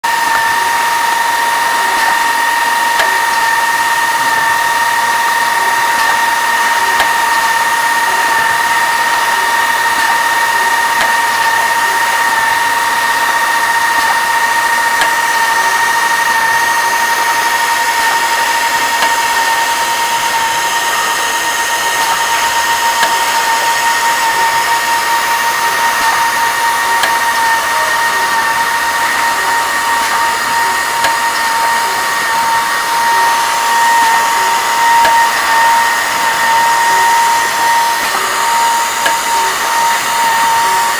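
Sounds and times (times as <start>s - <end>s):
machine high whine: 0.0s - 40.9s.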